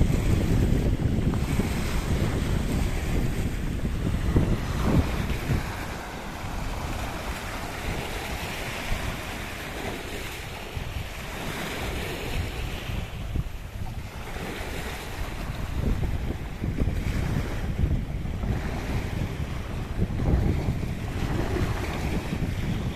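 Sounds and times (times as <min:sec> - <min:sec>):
waves washing over rocks: 0:00.0 - 0:22.9
wind buffeting microphone: 0:00.0 - 0:22.9.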